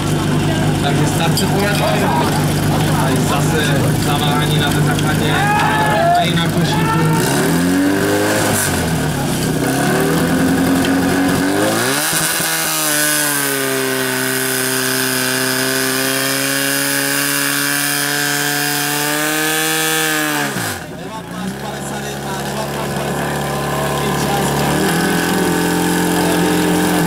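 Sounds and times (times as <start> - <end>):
pump engine running: 0.0 - 27.0.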